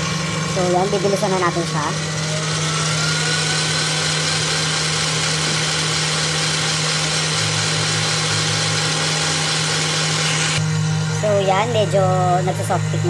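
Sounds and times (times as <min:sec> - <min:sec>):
electric stand mixer whisking: 0:00.0 - 0:13.0.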